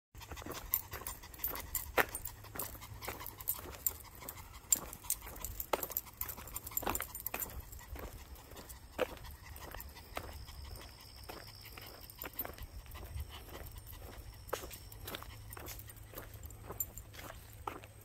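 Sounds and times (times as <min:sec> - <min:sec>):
footsteps and dog paws on asphalt: 0:00.2 - 0:18.0.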